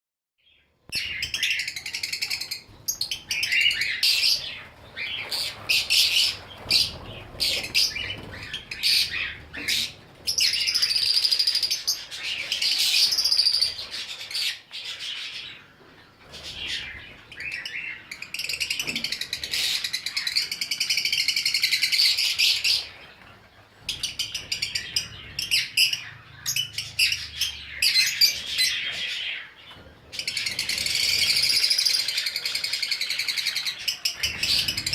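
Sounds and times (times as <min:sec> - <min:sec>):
cage birds chirping: 0:00.4 - 0:34.9.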